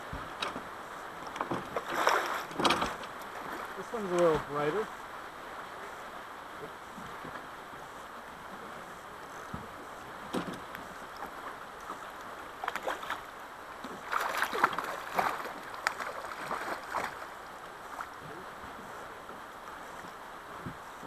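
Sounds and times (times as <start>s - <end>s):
boat knocks and splashes: 0.0s - 5.6s, 6.5s - 21.0s
water moving around boat: 0.0s - 21.0s.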